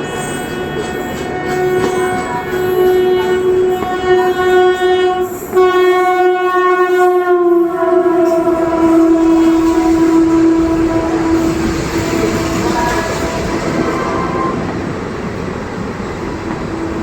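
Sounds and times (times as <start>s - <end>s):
locomotive horn blast: 0.0s - 14.8s
train rumble: 0.0s - 17.0s.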